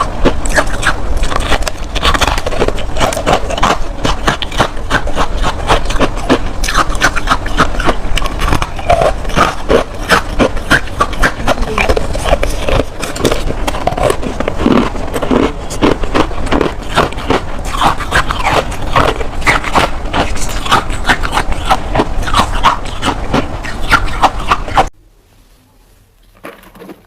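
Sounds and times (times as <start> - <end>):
frost crunching and squeaking: 0.0 - 24.9.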